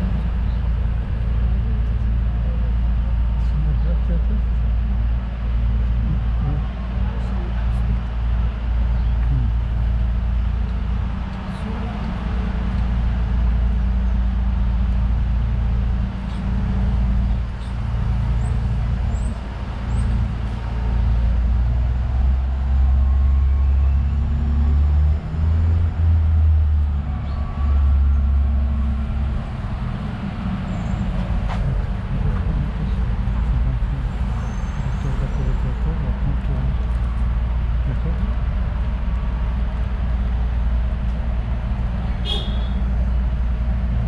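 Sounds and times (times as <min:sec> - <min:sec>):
passing vehicle engines rumbling: 0:00.0 - 0:44.0.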